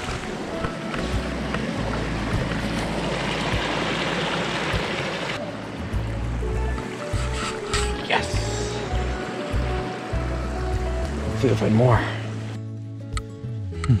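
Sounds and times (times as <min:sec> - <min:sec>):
creek rushing over rocks: 0:00.0 - 0:12.6.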